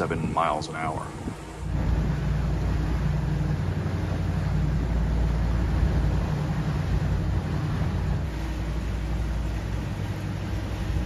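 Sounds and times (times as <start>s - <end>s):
boat engines droning: 0.0s - 11.0s
constant rushing noise: 0.0s - 11.0s.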